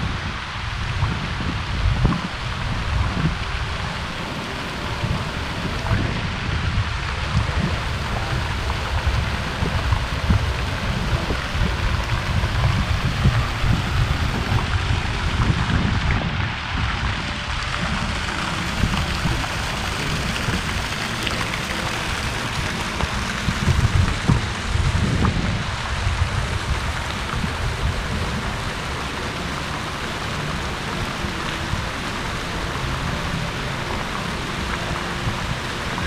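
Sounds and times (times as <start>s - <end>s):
fountain jets splashing: 0.0s - 36.0s
low rumble: 0.0s - 36.0s.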